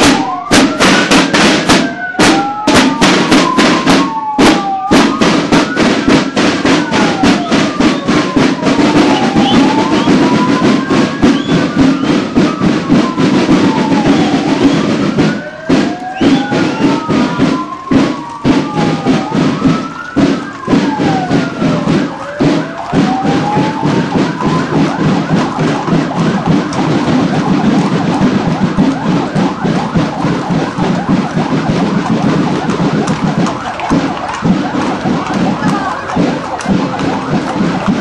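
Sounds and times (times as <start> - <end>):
emergency sirens wailing: 0.0 - 38.0
music with rapid drumbeat: 0.0 - 38.0.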